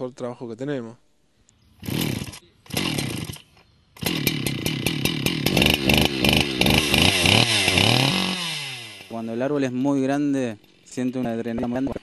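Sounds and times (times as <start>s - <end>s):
chainsaw starting and running: 1.8s - 12.0s.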